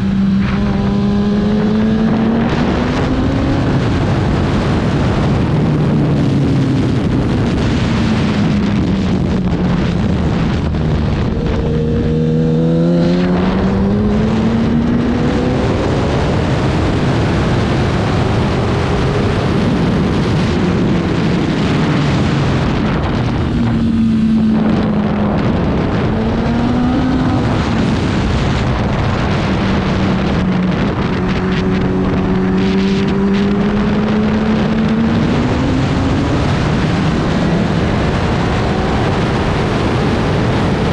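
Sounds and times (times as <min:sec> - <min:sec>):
racing motorcycle engine revving: 0:00.0 - 0:40.9
rushing wind and road noise: 0:00.0 - 0:40.9.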